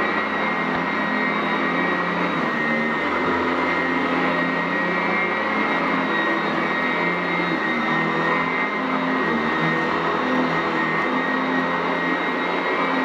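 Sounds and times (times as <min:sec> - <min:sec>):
upright vacuum running: 0:00.0 - 0:13.0.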